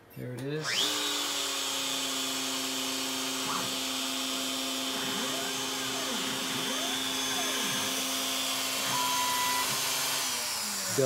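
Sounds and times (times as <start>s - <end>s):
router spindle running: 0.6s - 11.0s
stepper motors whining: 0.6s - 11.0s.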